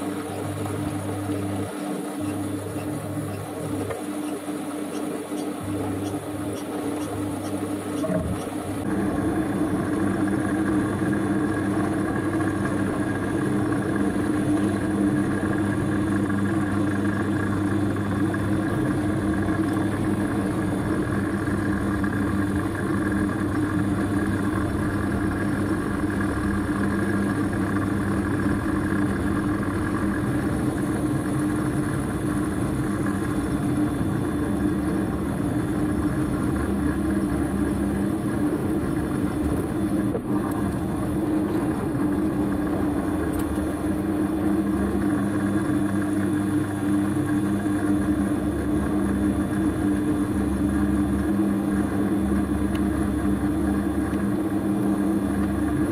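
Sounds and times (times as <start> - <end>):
lathe motor and gear hum: 0.0 - 55.9.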